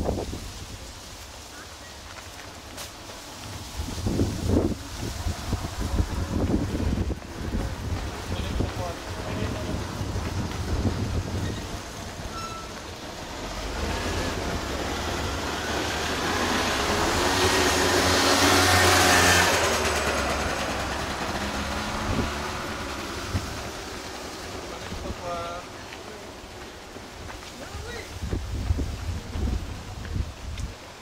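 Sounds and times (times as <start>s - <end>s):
vehicle passing by: 2.6s - 30.0s.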